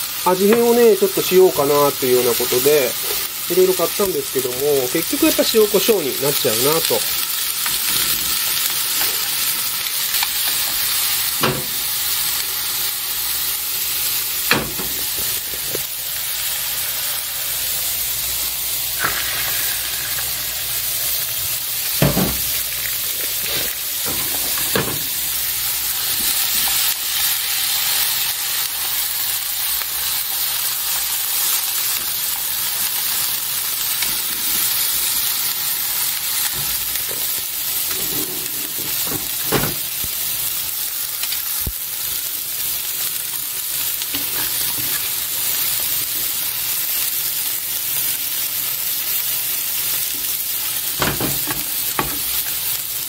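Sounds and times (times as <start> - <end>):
food sizzling in a pan: 0.0 - 53.0.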